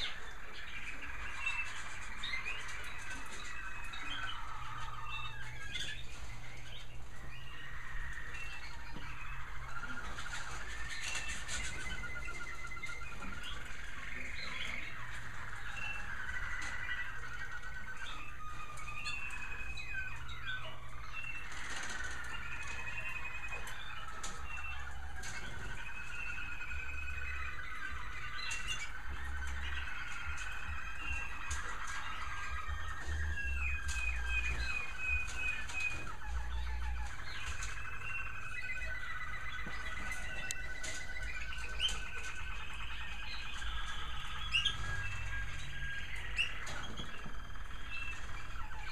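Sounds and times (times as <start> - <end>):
canaries singing trills: 0.0 - 48.9.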